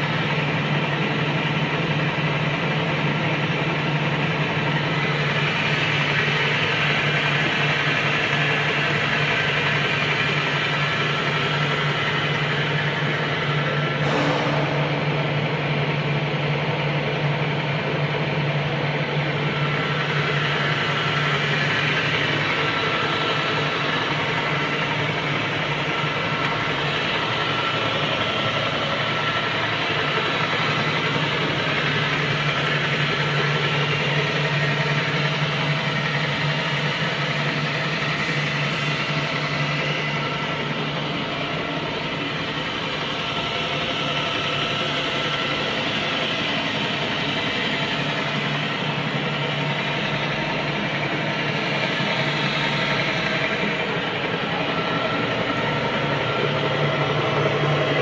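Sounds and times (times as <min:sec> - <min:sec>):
lathe motor humming: 0:00.0 - 0:58.0
thin constant whine: 0:00.0 - 0:58.0.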